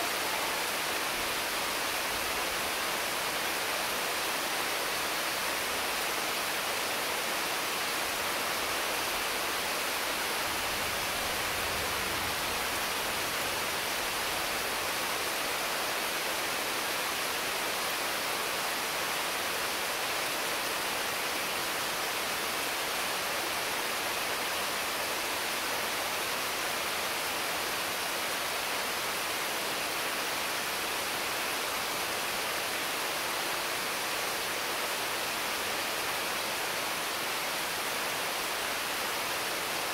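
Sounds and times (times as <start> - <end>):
heavy rain falling on trees: 0.0 - 39.9.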